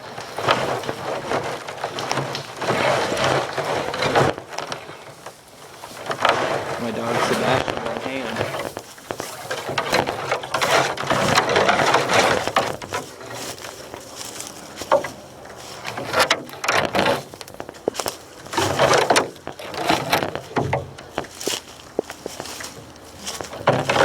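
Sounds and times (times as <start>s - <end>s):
footsteps crunching dry leaves: 0.0s - 24.0s
twigs snapping: 0.0s - 24.0s.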